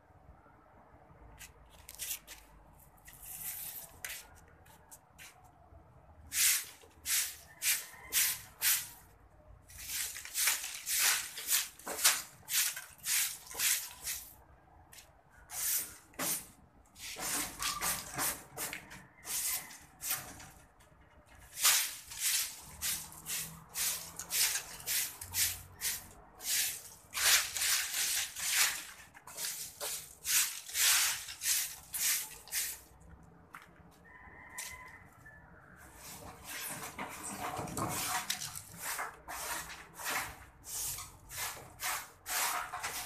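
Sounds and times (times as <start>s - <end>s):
broom sweeping concrete floor: 1.4s - 5.4s, 6.3s - 9.1s, 9.7s - 14.4s, 15.4s - 20.6s, 21.5s - 33.0s, 35.9s - 43.0s.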